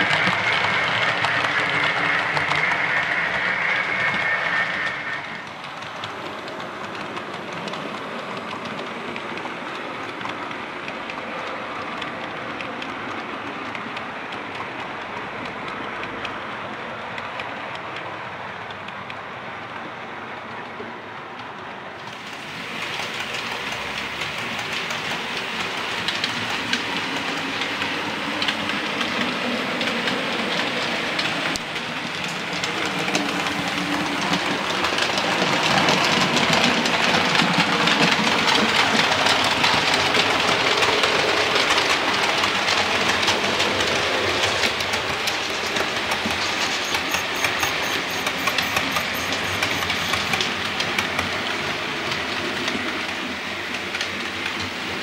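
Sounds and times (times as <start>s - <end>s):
model train wheels clicking on rails: 0.0s - 55.0s.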